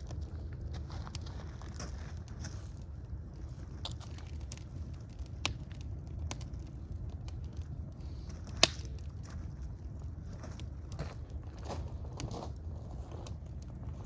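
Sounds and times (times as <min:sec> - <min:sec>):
low rumble: 0:00.0 - 0:14.0
sharp pops from fire: 0:00.0 - 0:14.0
wood fire crackling: 0:00.0 - 0:14.0.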